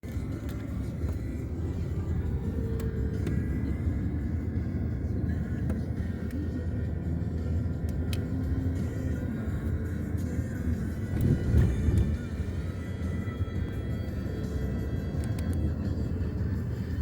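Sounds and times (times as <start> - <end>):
car road and engine rumble: 0.0 - 17.0
faint music: 0.0 - 17.0.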